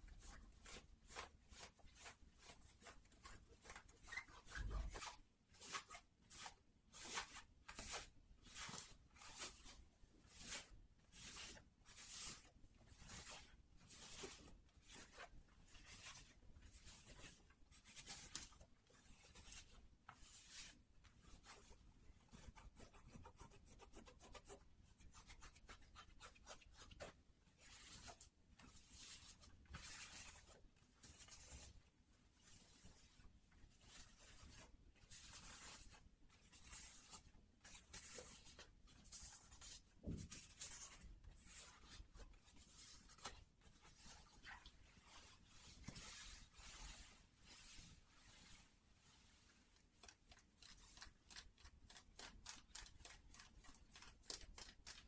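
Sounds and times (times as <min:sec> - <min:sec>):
scratching on socks: 0:00.0 - 0:55.0.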